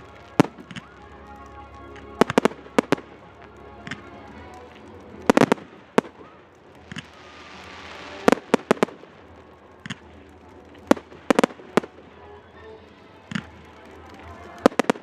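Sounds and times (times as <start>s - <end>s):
fireworks bursting with sharp bangs: 0.0s - 15.0s
fireworks hissing: 0.0s - 15.0s.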